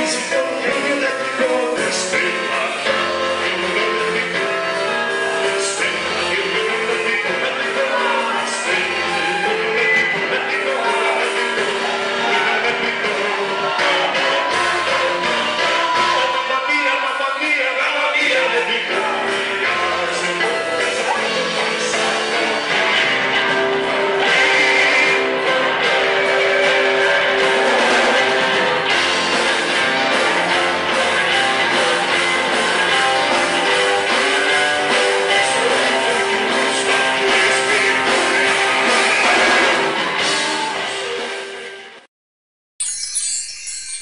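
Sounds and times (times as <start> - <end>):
guitar band music: 0.0 - 42.0.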